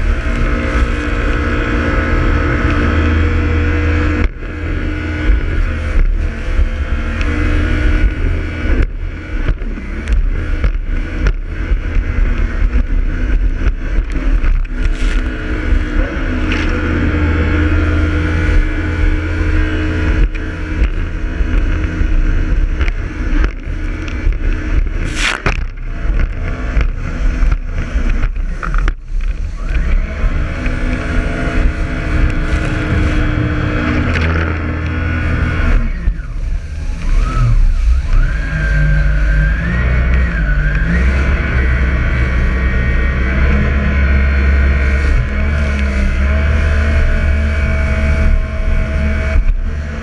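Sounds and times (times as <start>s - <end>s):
jet ski engine rumbling: 0.0s - 50.0s.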